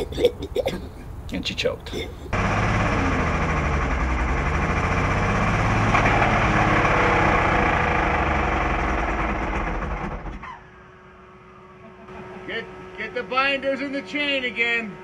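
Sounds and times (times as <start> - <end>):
diesel engine running rough: 2.3 - 15.0.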